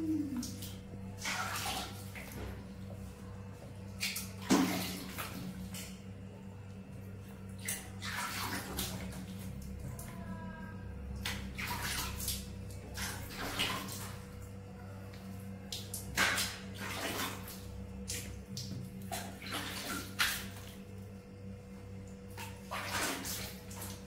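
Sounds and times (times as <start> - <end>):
water splashing in tub: 0.0 - 3.1, 3.9 - 6.1, 7.2 - 14.6, 15.6 - 21.2, 21.8 - 24.0
low steady hum: 0.0 - 24.0.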